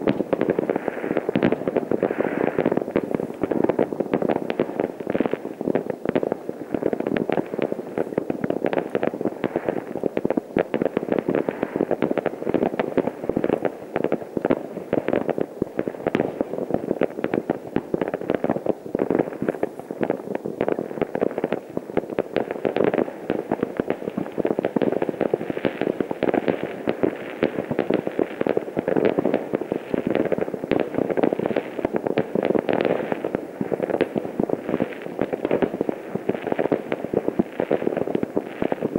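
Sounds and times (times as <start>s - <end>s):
fireworks crackling and banging: 0.0s - 38.9s.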